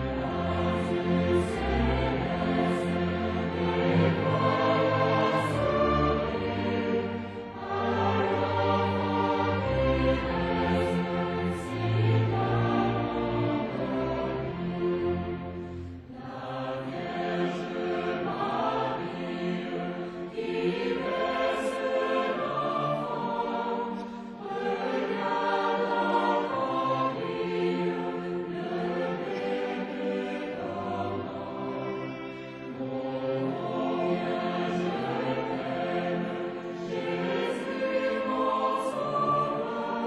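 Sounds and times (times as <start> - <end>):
mixed choir singing a carol: 0.0 - 40.0
string orchestra: 0.0 - 40.0.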